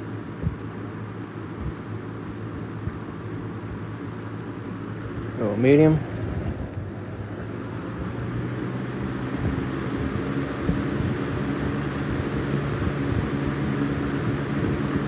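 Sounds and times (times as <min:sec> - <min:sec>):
box fan running: 0:00.0 - 0:15.0.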